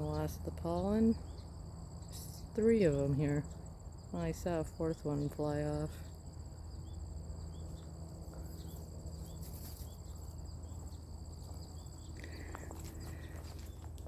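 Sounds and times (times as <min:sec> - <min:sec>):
crickets trilling: 0:00.0 - 0:14.0
steady low hum: 0:00.0 - 0:14.0.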